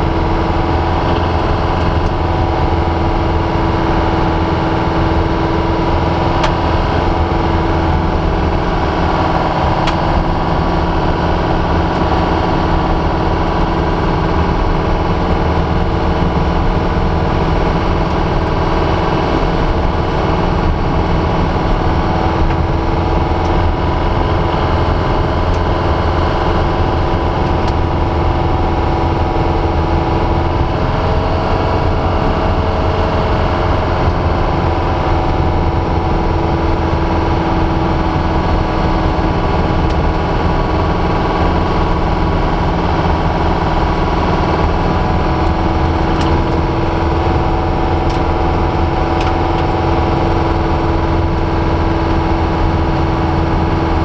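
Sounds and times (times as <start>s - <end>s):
car engine running steadily: 0.0s - 54.0s.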